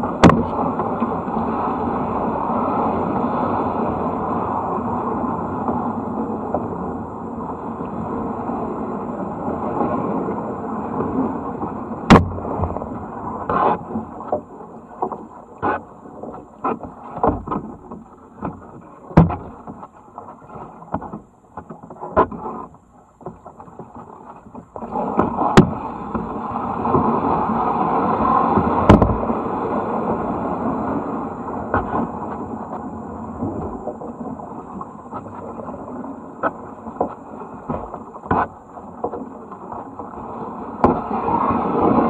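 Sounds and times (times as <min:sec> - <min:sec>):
paddles knocking kayak: 0:00.0 - 0:07.0, 0:07.8 - 0:42.0
water rushing and splashing: 0:00.0 - 0:42.0.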